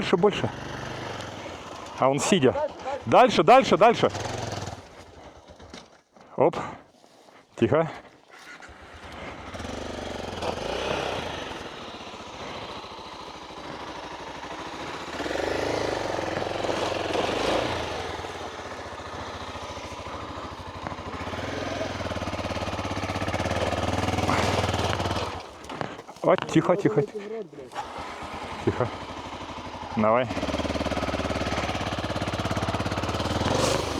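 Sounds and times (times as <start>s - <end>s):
motorcycle engine revving: 0.0s - 6.0s, 8.4s - 33.9s.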